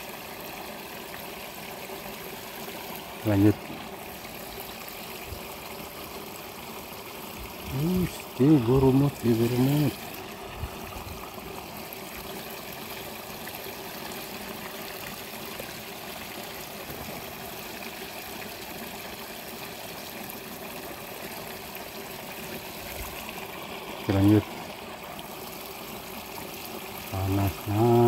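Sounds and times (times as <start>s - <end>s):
water trickling in ditch: 0.0s - 28.0s.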